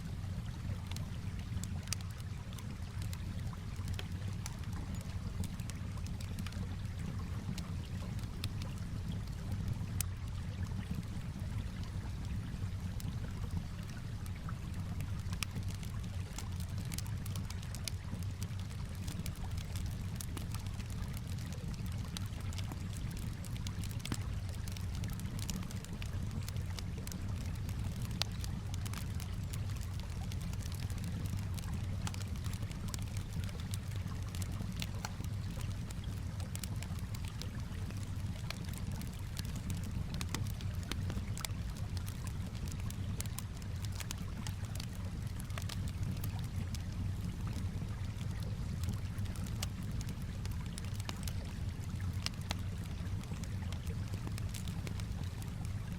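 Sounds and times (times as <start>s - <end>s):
calm water: 0.0s - 55.9s
campfire crackling and popping: 0.0s - 55.9s.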